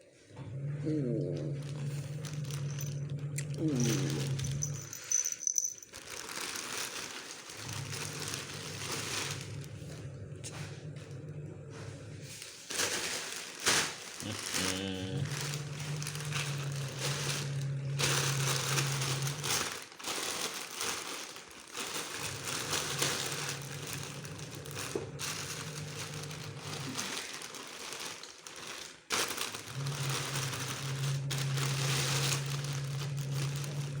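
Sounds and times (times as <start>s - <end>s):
bag crinkling and rustling: 0.6s - 34.0s.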